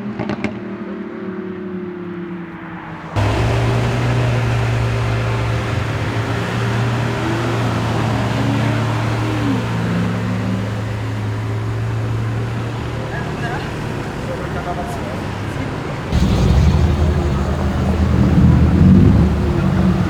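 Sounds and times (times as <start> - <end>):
car engine idling: 3.2 - 20.0.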